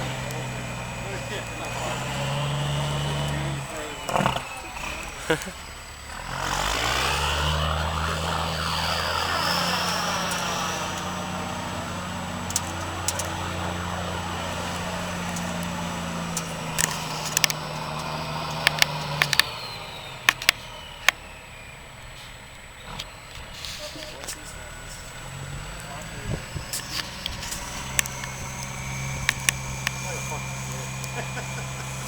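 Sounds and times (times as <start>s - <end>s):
sharp clicks: 0.0s - 21.2s, 22.9s - 32.0s
diesel truck engine revving: 0.0s - 32.0s.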